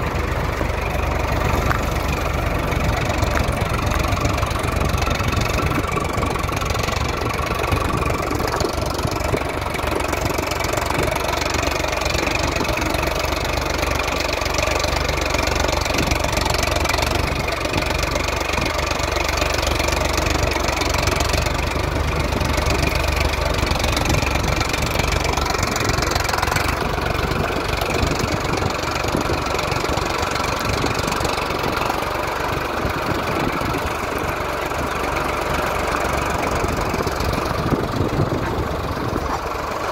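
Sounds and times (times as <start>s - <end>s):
tractor diesel engine knocking: 0.0s - 39.9s.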